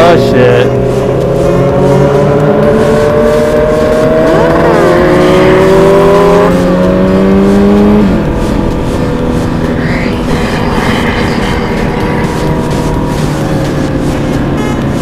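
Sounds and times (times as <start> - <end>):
motorcycle engine accelerating: 0.0 - 15.0
other engines passing: 0.0 - 15.0.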